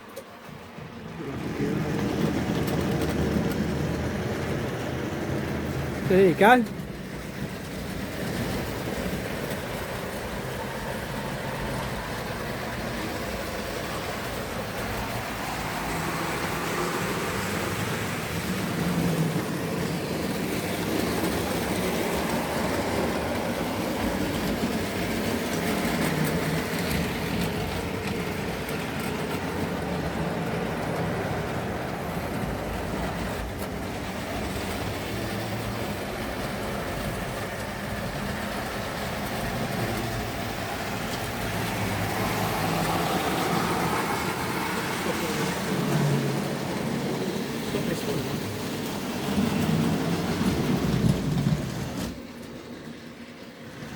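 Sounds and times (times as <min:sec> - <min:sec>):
model train wheels clattering: 0:00.0 - 0:53.9.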